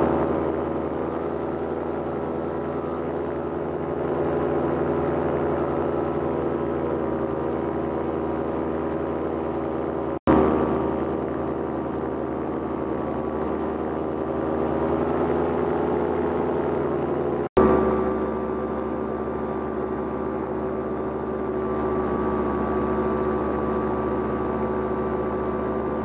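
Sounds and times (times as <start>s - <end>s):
paramotor engine droning: 0.0s - 26.0s.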